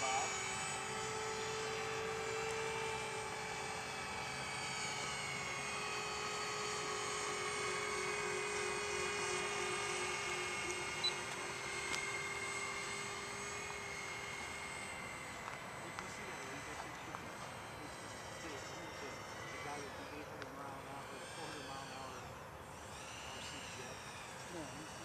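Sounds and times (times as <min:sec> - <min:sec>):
model airplane motors whining: 0:00.0 - 0:25.0.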